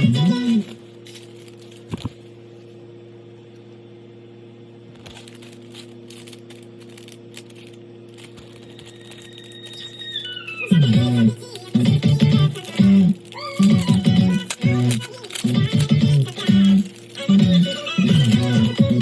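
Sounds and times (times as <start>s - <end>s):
plastic and paper crinkling: 0.0s - 2.6s, 5.0s - 19.0s
steady low hum: 0.0s - 19.0s.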